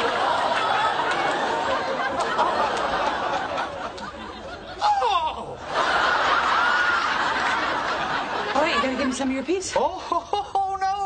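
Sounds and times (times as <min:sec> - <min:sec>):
studio audience laughing: 0:00.0 - 0:11.0.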